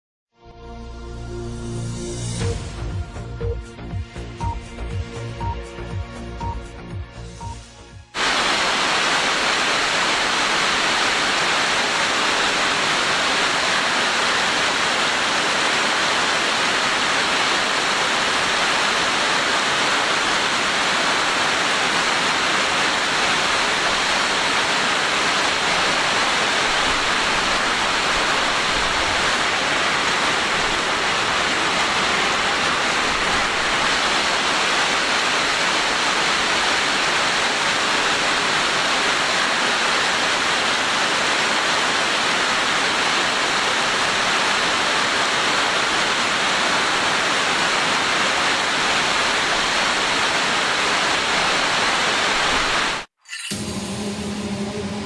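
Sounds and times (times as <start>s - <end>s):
heavy rain and hail: 8.2s - 53.1s.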